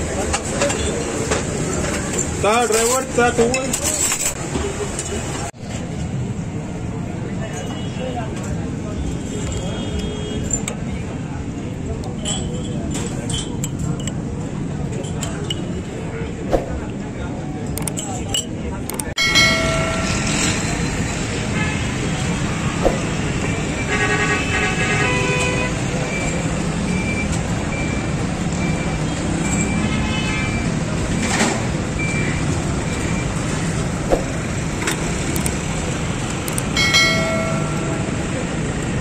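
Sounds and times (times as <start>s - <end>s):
crowd hubbub: 0.0s - 39.0s
traffic and engine noise: 0.0s - 39.0s.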